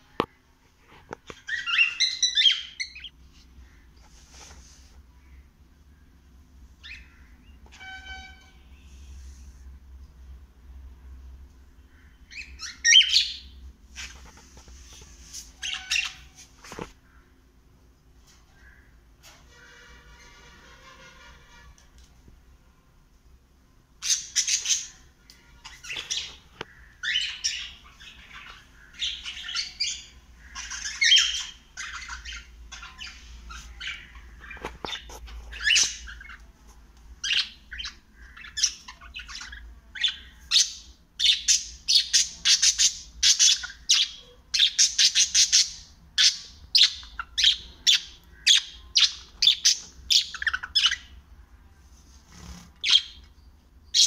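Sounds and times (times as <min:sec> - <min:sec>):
pet birds chirping: 0:00.0 - 0:08.9, 0:11.5 - 0:17.6, 0:24.0 - 0:51.3, 0:52.3 - 0:54.0.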